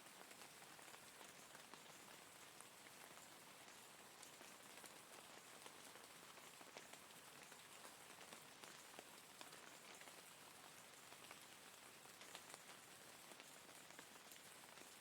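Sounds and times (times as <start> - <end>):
steady rain with drops ticking: 0.0 - 15.0.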